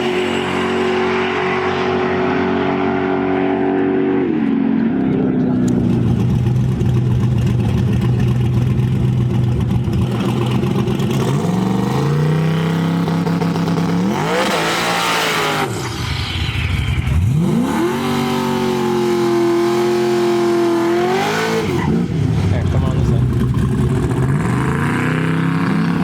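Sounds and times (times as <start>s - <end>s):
drag racing engine revving: 0.0s - 26.0s.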